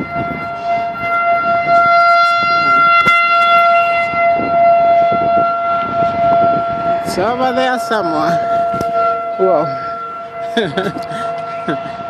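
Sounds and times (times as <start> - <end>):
low rumbling noise: 0.0 - 12.0
warning siren steady tone: 0.0 - 12.0.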